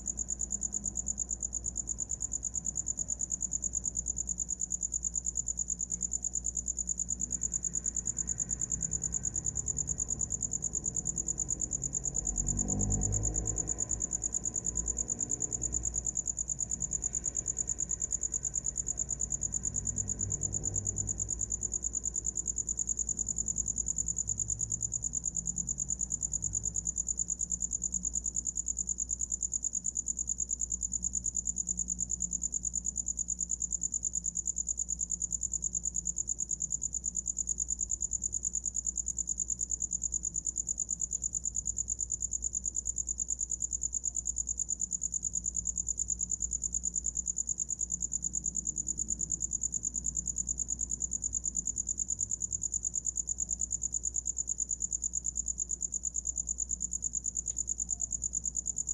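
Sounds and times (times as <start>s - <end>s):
cricket trilling: 0.0s - 58.9s.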